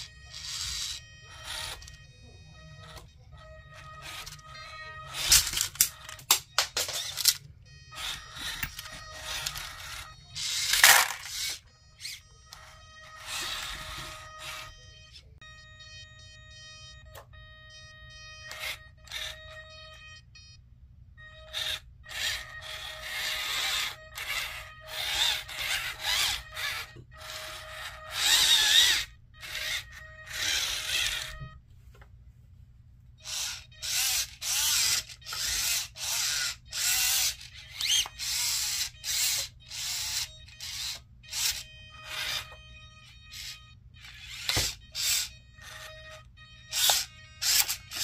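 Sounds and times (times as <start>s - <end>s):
electric motors whirring in bursts: 0.0s - 15.2s, 17.5s - 19.8s, 21.2s - 31.5s, 33.2s - 48.0s.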